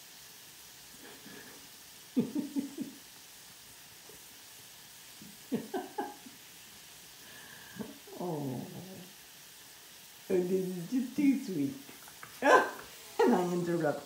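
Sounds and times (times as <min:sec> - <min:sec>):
food frying: 0:00.0 - 0:14.0.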